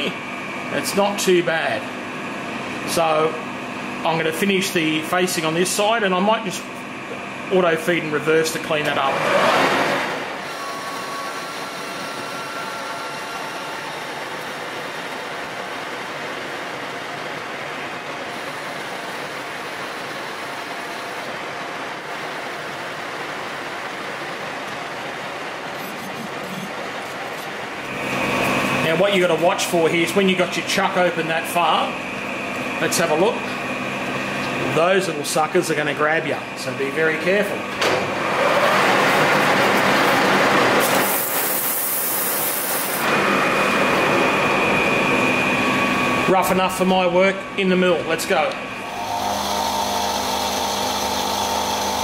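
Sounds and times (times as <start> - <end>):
lathe running: 9.0 - 52.0.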